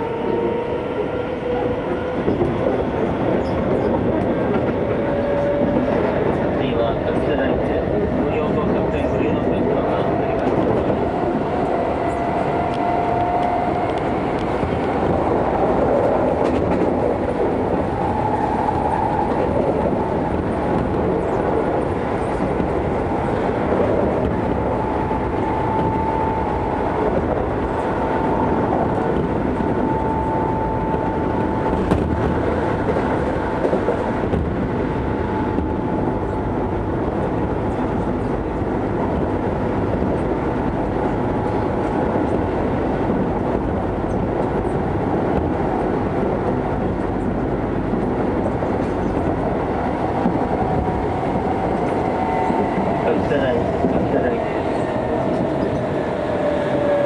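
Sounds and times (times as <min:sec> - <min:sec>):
train wheels rumbling on rail: 0:00.0 - 0:57.0
electric train whine: 0:07.1 - 0:57.0.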